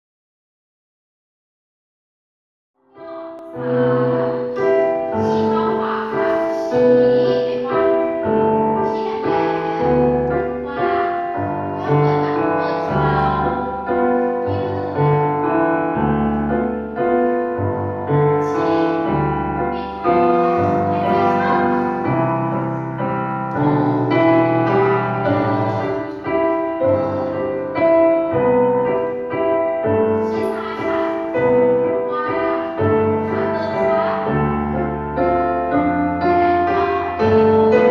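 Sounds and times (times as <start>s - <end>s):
piano music: 2.8s - 37.9s.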